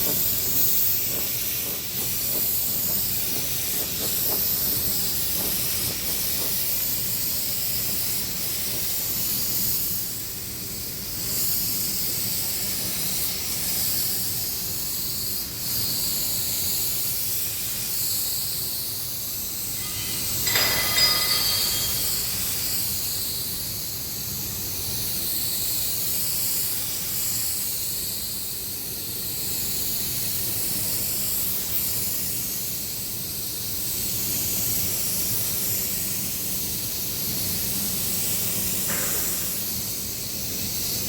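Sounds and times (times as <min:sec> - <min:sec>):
high-pitched spray hiss: 0:00.0 - 0:41.0.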